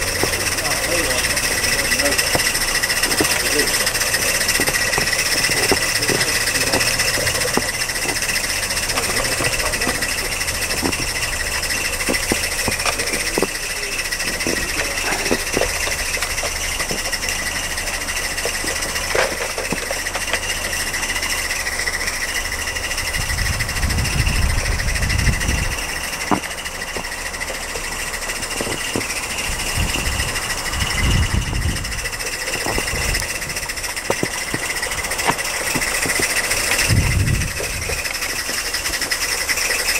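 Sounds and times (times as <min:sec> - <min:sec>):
low rumbling bursts: 0:00.0 - 0:39.9
wheel clicks on track: 0:00.0 - 0:39.9.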